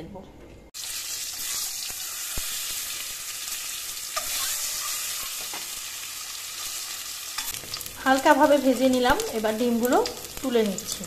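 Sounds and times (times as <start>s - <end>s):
eggs sizzling in hot oil: 0.8s - 11.0s.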